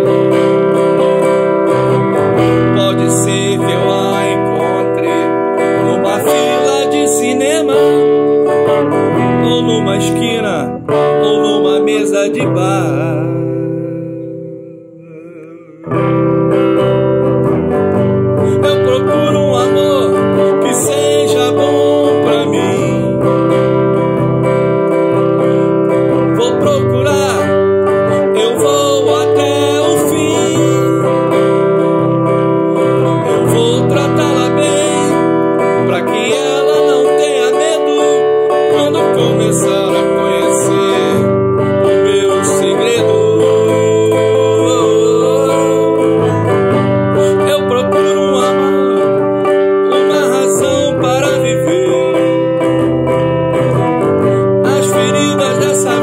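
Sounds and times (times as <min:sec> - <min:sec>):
guitar strumming: 0:00.0 - 0:56.0
man singing: 0:00.0 - 0:56.0.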